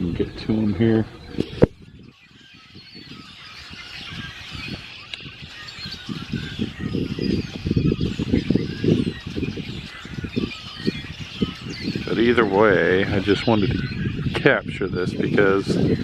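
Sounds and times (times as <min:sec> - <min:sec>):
flock of birds chattering and whistling: 0:00.0 - 0:16.0.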